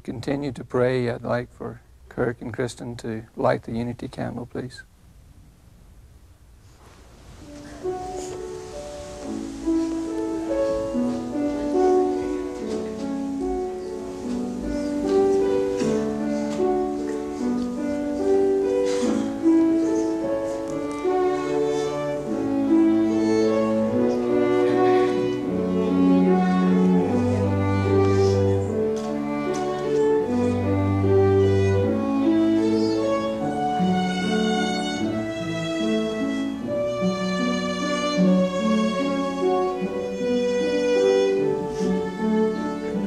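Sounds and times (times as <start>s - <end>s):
slow bowed string music: 7.5s - 43.0s.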